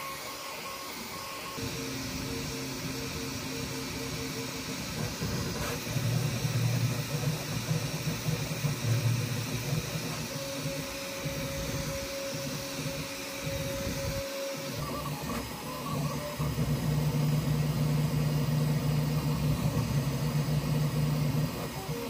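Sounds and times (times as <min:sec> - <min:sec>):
cooling fans hissing: 0:00.0 - 0:22.0
steady whine: 0:00.0 - 0:22.0
stepper motors whirring: 0:00.0 - 0:22.0.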